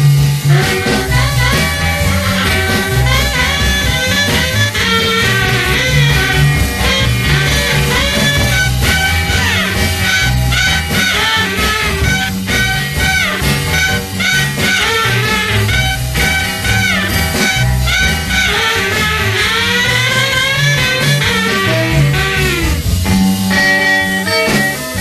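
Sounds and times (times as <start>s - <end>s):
bass: 0.0s - 25.0s
drums: 0.0s - 25.0s
saxophone lead line: 0.0s - 25.0s.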